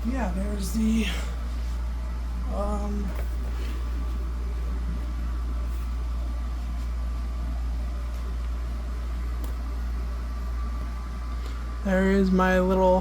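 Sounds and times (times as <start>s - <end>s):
faint steady whine: 0.0s - 13.0s
fan motor hum: 0.0s - 13.0s.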